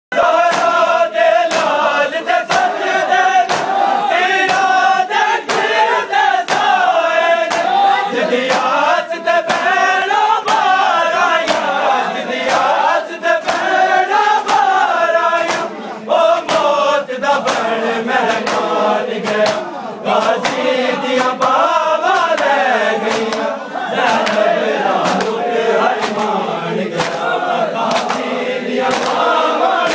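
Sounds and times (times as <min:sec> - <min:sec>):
men chanting a lament: 0:00.1 - 0:29.9
hands slapping bare chests: 0:00.4 - 0:05.8, 0:06.4 - 0:08.8, 0:09.4 - 0:29.9.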